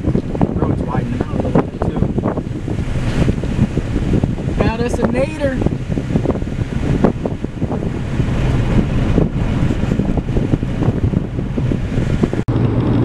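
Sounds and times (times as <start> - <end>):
tyres rumbling on gravel road: 0.0 - 13.0
wind noise: 0.0 - 13.0.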